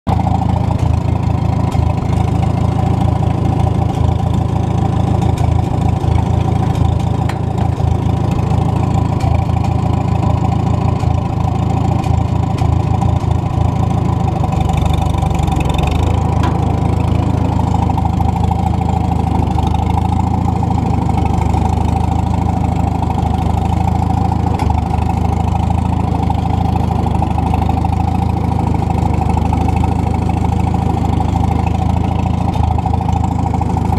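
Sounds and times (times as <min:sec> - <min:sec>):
tractor engine idling: 0:00.1 - 0:33.9.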